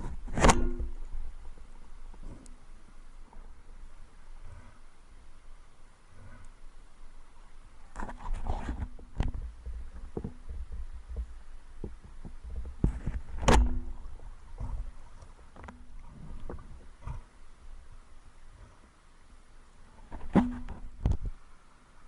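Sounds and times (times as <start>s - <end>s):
steady low rumble: 0.0s - 8.0s, 8.8s - 22.0s.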